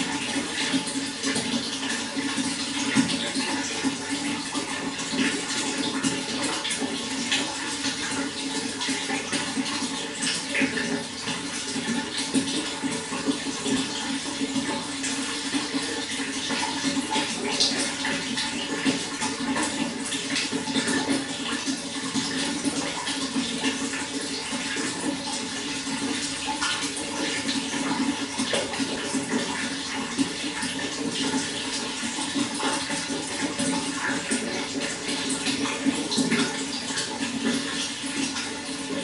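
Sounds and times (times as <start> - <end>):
running water splashing: 0.0 - 39.0.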